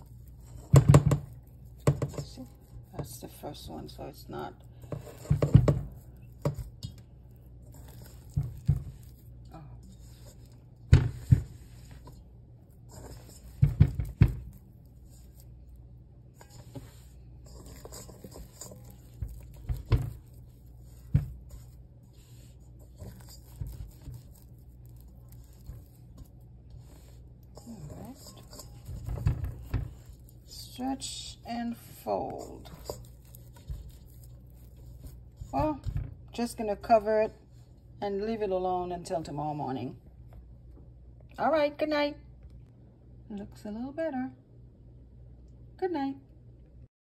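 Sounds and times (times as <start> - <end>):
dough squelching and thumping: 0.0 - 40.8.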